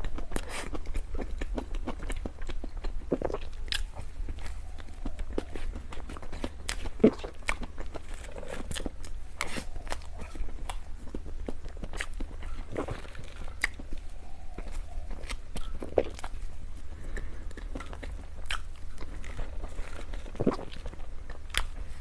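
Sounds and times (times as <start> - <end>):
person chewing dessert: 0.0 - 22.0.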